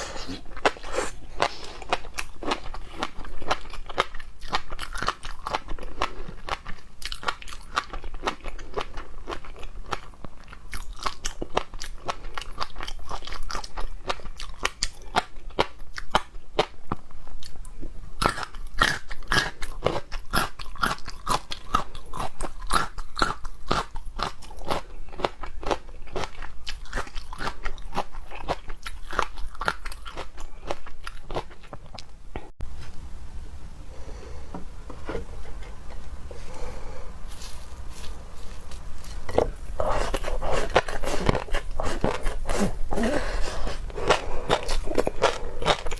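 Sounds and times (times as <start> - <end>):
chewing crunchy seafood: 0.0 - 32.5, 35.5 - 45.9.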